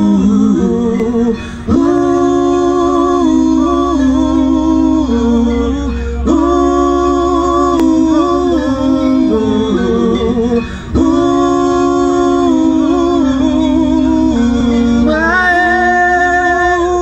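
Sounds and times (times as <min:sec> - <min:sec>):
man singing into microphone: 0:00.0 - 0:17.0
steady low drone: 0:00.0 - 0:17.0.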